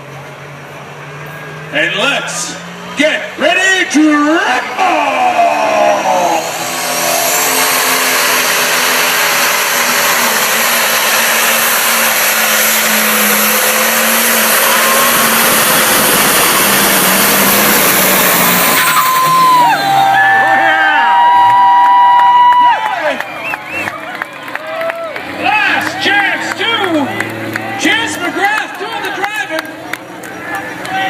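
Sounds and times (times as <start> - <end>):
tractor engine roaring: 0.0 - 31.0.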